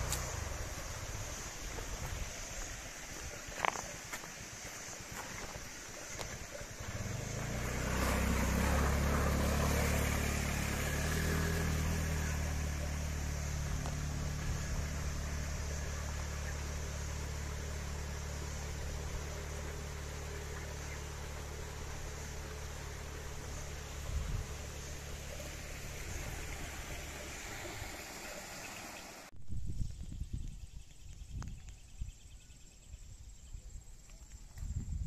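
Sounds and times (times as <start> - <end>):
small motorcycle engine: 0.0 - 29.3.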